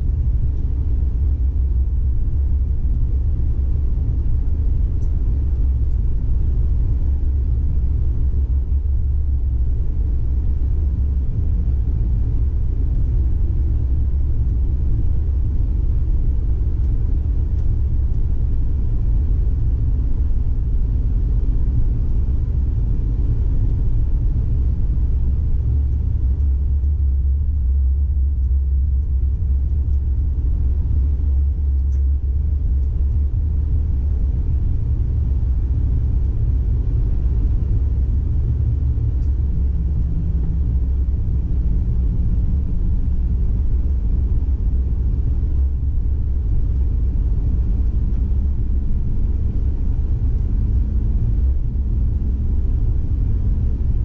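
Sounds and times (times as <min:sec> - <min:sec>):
faint rising drive hum: 0:00.0 - 0:54.0
tram running gear rumble: 0:00.0 - 0:54.0.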